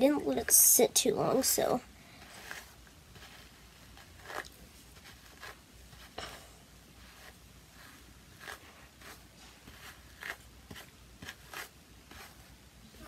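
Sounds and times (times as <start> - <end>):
hairbrush swishing through hair: 1.4 - 6.2, 7.0 - 13.0.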